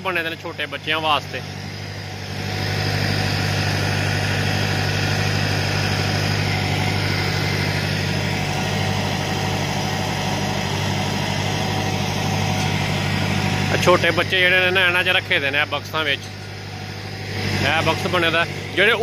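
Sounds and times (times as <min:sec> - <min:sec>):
engine droning hum: 0:00.0 - 0:19.0.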